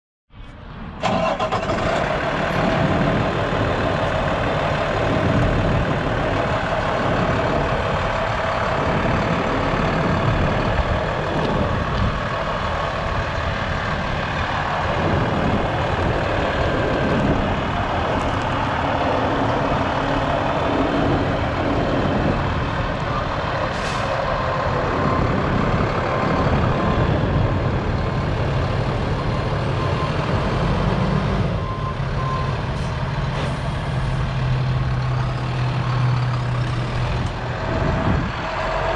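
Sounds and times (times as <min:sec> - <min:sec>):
diesel truck engine idling: 0:01.0 - 0:38.9.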